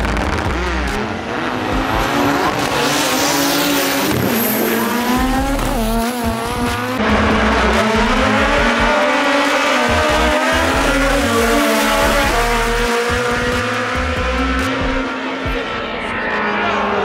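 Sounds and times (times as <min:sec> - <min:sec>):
racing car engines revving: 0:00.0 - 0:17.0.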